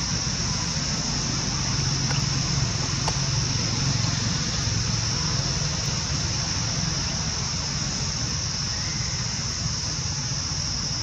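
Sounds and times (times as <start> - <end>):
high-pitched insect chorus: 0.0 - 11.0
low steady rumble: 0.0 - 11.0.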